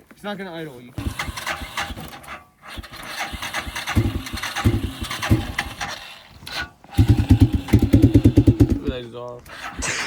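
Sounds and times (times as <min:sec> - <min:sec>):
small engine sputtering: 0:01.0 - 0:10.0.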